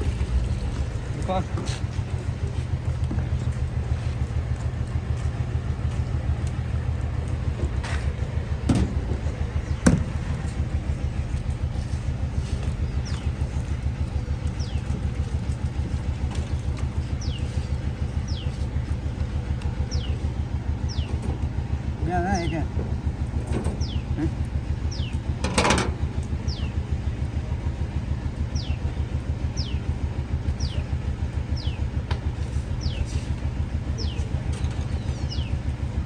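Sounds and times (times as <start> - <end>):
engine low chugging: 0.0 - 36.0.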